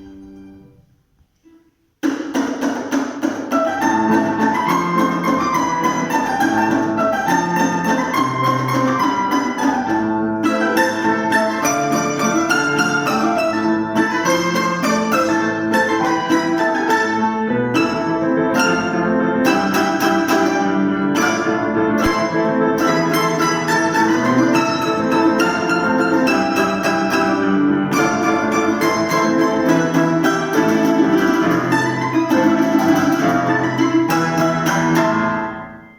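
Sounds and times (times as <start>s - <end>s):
plucked string duet: 0.0s - 35.9s.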